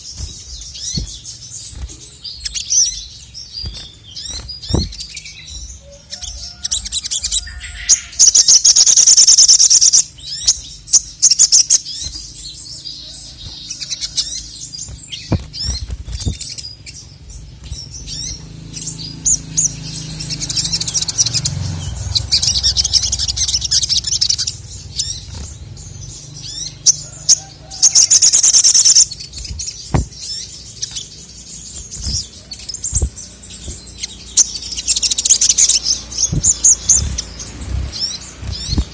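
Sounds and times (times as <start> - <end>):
sunbird singing chirps and trills: 0.0 - 38.9.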